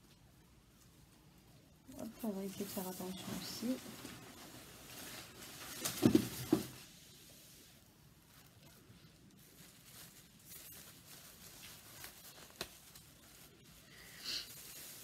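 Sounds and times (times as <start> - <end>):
wrapping crinkling: 0.7 - 7.0, 7.7 - 15.0
wrapping rustling: 0.7 - 15.0.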